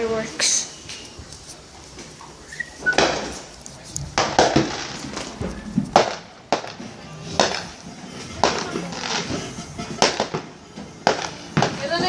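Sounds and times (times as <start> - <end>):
fireworks bangs: 1.9 - 12.0.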